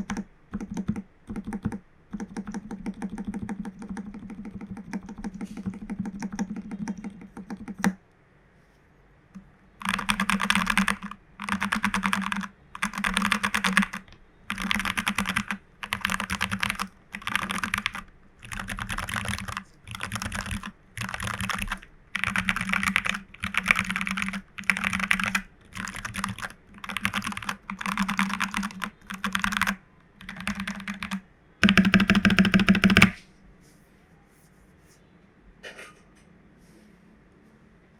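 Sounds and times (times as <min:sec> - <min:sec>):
mechanical keyboard typing: 0:00.0 - 0:08.0, 0:09.8 - 0:33.2.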